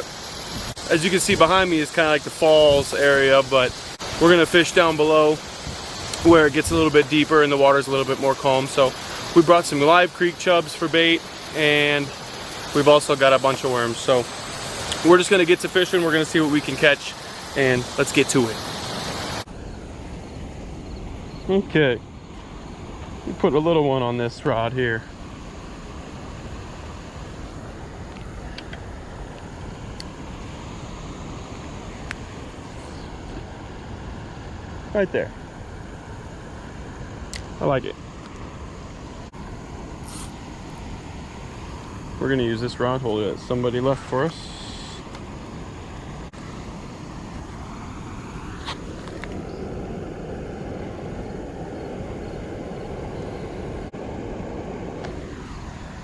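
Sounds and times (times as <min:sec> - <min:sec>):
creek water rushing over falls: 0:00.0 - 0:56.0.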